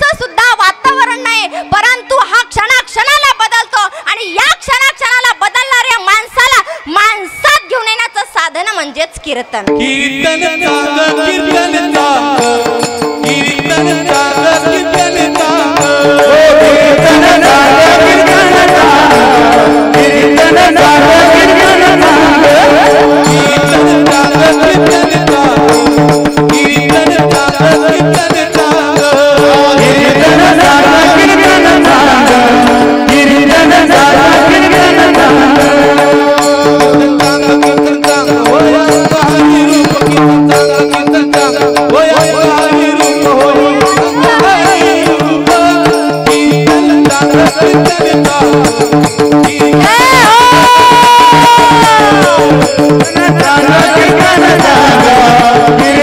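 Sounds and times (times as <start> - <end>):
hand drum: 9.6 - 56.0
man singing devotional chant: 9.7 - 56.0.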